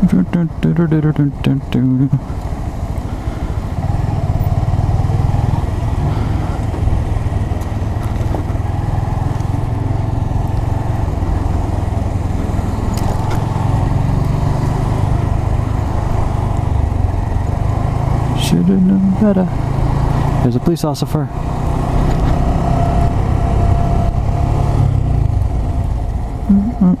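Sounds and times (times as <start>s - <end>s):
small motorcycle engine running: 2.2s - 27.0s.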